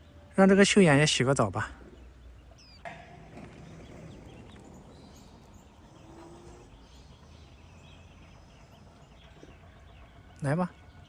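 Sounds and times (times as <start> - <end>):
faint outdoor ambience: 0.0 - 11.0
small birds chirping: 0.0 - 11.0.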